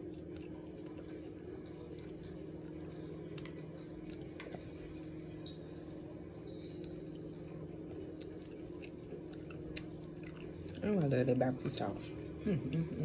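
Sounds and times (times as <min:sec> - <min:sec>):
person chewing with mouth smacks: 0:00.0 - 0:10.9.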